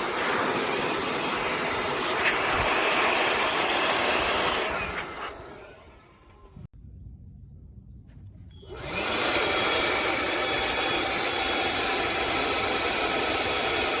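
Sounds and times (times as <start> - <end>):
blower motor whine and air rush: 0.0 - 6.7, 8.5 - 14.0.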